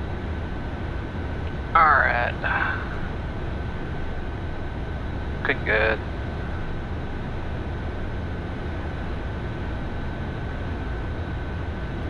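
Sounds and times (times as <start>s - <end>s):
high steady whine: 0.0s - 12.0s
jet cockpit airflow and engine: 0.0s - 12.0s.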